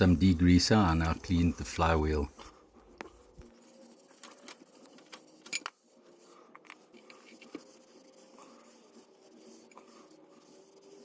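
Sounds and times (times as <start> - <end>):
rag scraping and wiping metal: 0.3 - 11.0.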